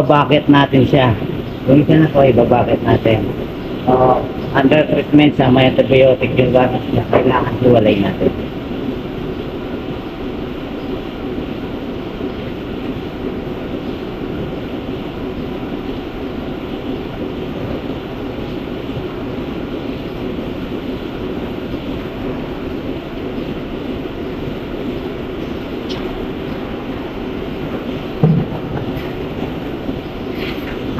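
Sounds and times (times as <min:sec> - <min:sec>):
milking machinery humming: 0:00.0 - 0:30.9.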